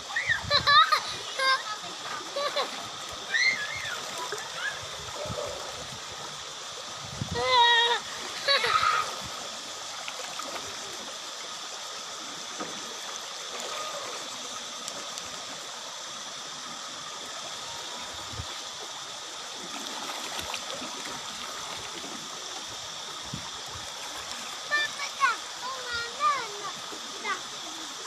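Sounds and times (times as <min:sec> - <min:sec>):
stream running over rocks: 0:00.0 - 0:28.0
small water splashes: 0:01.9 - 0:06.8, 0:07.4 - 0:16.0, 0:16.8 - 0:28.0.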